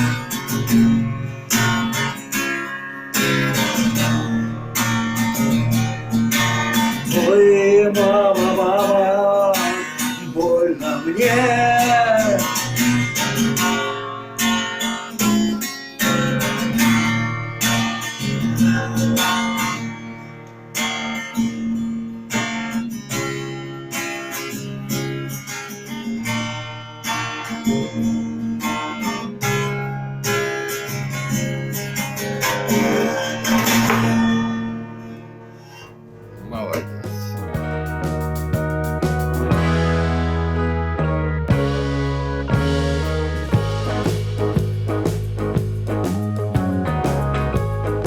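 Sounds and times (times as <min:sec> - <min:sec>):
acoustic guitar chords: 0:00.0 - 0:48.0.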